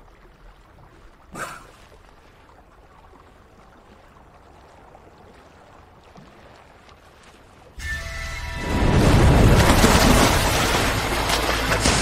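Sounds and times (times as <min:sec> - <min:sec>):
open air and water noise: 0:00.0 - 0:12.0.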